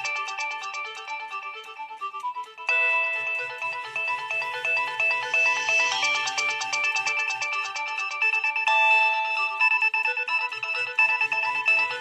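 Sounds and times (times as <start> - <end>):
ringtone tune over bass line: 0.0 - 1.5, 2.7 - 12.0
synthesized ringtone melody: 0.0 - 12.0.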